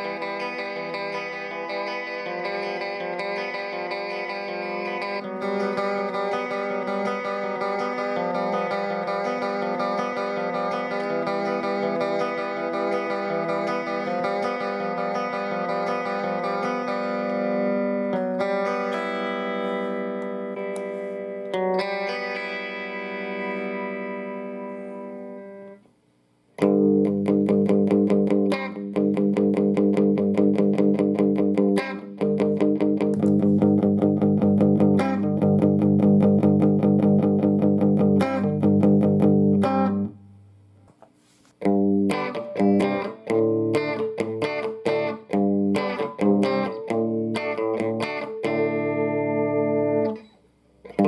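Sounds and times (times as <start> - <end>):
choppy guitar chord stabs: 0.0 - 25.8, 26.6 - 40.7, 41.6 - 50.3
electric guitar strummed chords: 0.0 - 25.9, 26.6 - 40.7, 41.6 - 51.0.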